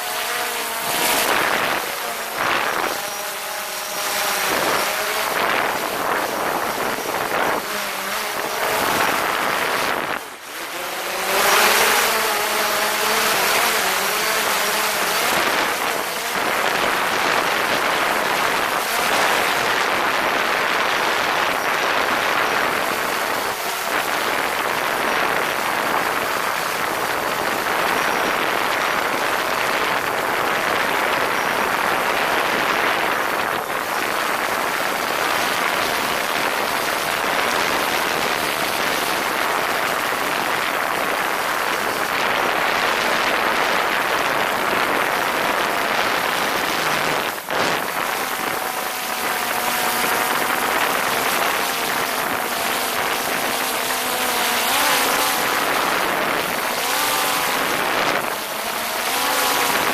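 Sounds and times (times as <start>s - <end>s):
drone propellers whirring: 0.0s - 59.9s.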